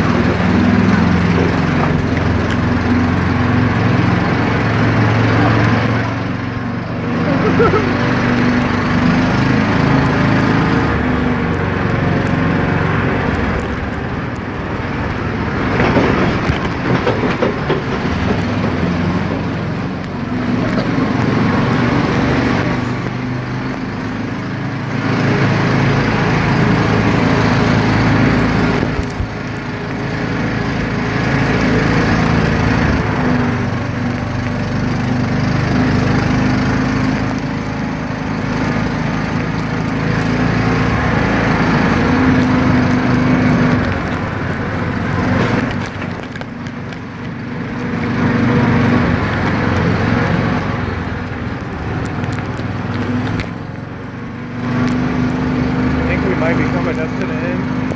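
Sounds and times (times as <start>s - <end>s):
buggy engine revving: 0.0s - 57.9s.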